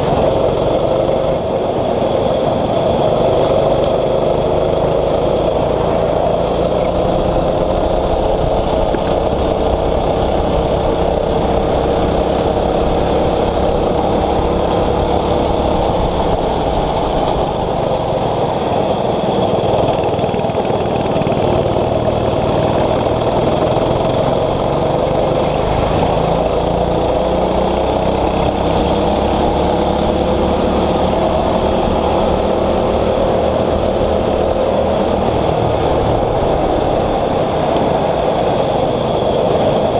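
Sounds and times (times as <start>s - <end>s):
kart engine running under load: 0.0s - 39.9s.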